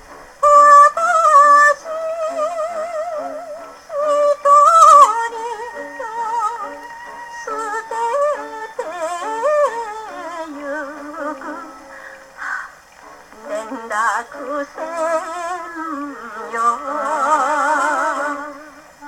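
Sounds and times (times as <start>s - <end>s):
old gramophone pop song: 0.0s - 19.0s
singing voice: 0.4s - 12.4s, 13.3s - 19.0s.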